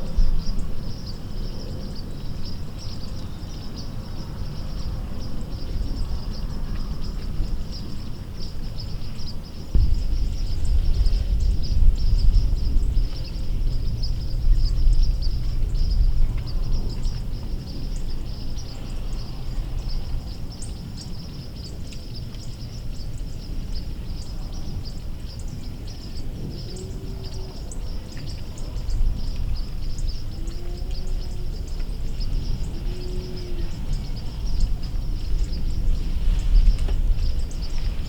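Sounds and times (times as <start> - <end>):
wind rumbling on microphone: 0.0 - 38.0.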